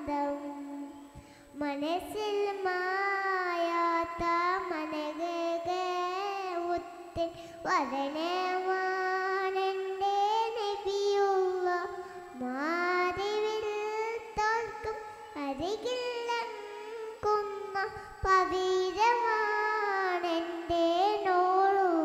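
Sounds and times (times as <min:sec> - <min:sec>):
girl singing into a microphone: 0:00.0 - 0:22.0.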